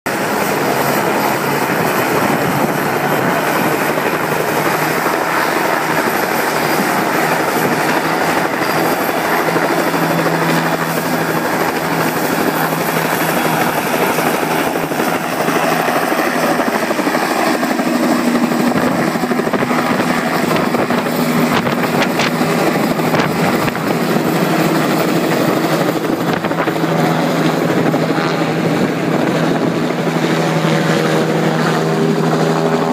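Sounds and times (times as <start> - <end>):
helicopter flying low overhead: 0.1 - 32.9.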